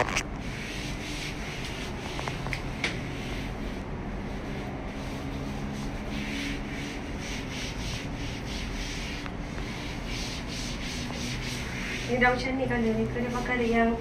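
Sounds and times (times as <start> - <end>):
cloth wiping and scraping: 0.0 - 14.0.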